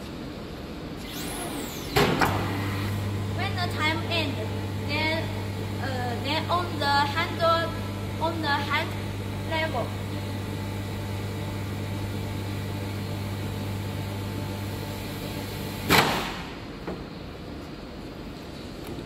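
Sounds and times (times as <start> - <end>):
vacuum forming machine humming: 0.9 - 17.6.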